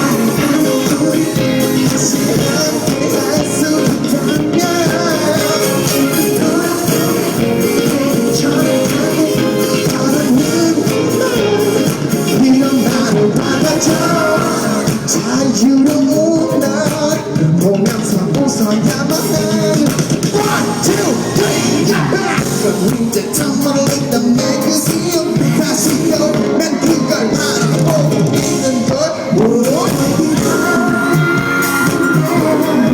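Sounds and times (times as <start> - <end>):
live pop band: 0.0 - 32.9
man singing: 0.0 - 32.9.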